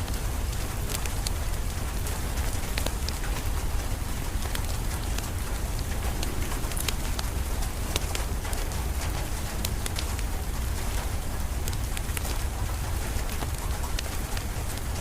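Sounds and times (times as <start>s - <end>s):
steady rain: 0.0s - 15.0s
wood fire crackling: 0.1s - 15.0s.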